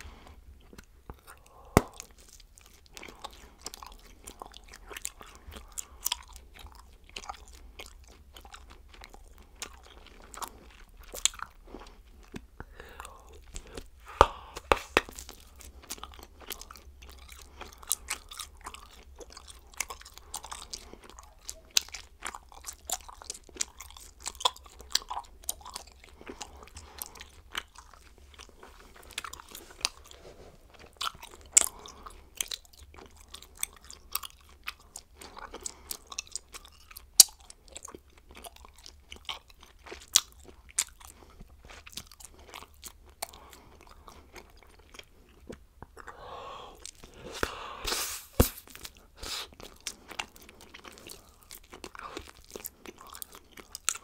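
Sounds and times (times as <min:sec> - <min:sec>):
bubblegum chewing clicks and smacks: 0:00.2 - 0:47.6, 0:48.3 - 0:54.0.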